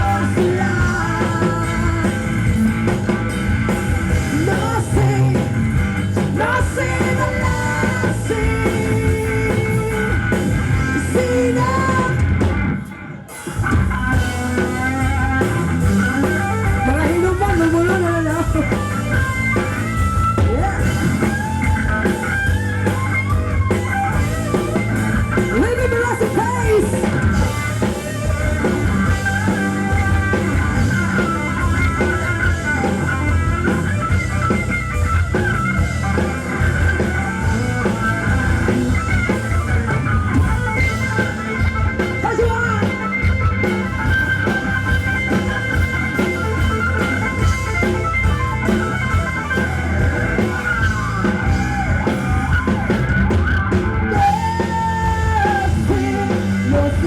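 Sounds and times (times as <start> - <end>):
electric guitar lead bending notes: 0.0 - 57.0
rock band playing: 0.0 - 57.0.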